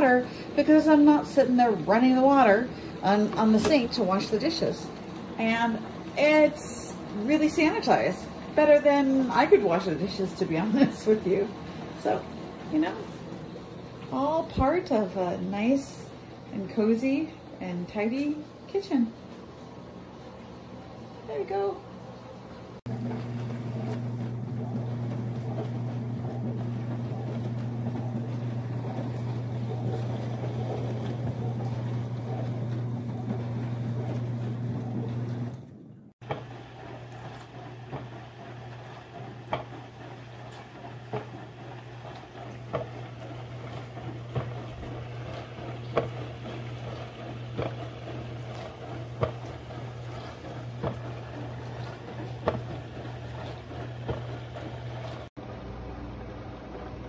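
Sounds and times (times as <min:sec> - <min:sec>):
dishwasher pump humming: 0:00.0 - 0:57.0.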